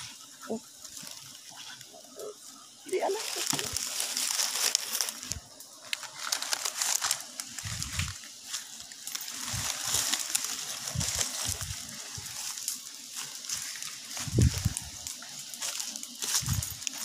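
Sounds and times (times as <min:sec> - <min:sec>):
dry leaves rustling and crackling: 0:00.0 - 0:17.0
steady high hiss: 0:00.0 - 0:17.0.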